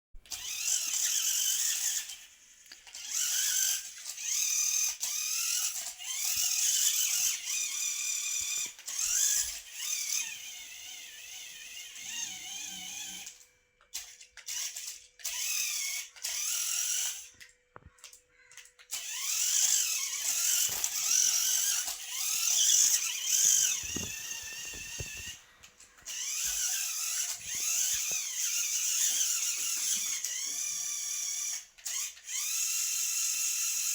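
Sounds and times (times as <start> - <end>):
toy car motor whirring: 0.2 - 33.9.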